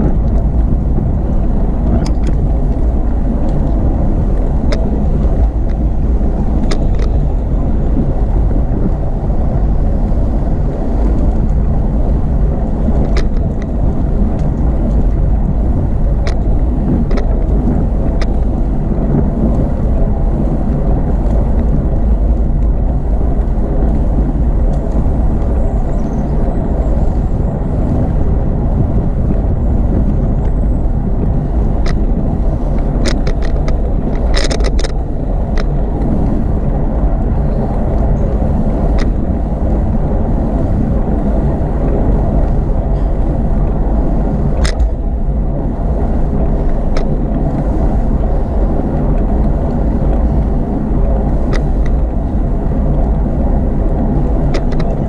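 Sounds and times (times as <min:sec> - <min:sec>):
rattling ticks: 0:00.0 - 0:09.7, 0:10.6 - 0:20.1, 0:29.1 - 0:55.0
wind rumble on microphone: 0:00.0 - 0:55.0.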